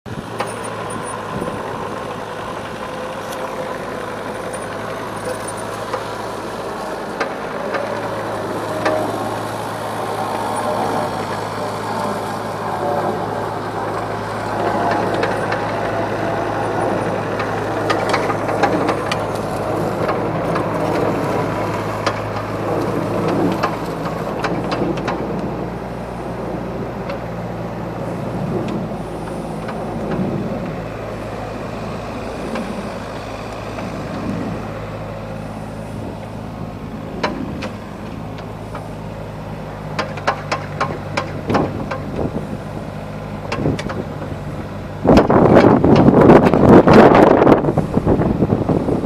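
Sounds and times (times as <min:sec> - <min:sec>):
excavator diesel engine running: 0:00.1 - 0:49.0.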